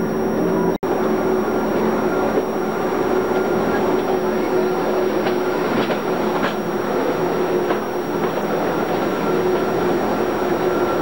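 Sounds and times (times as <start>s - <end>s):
train rumble and hum: 0.0s - 11.0s.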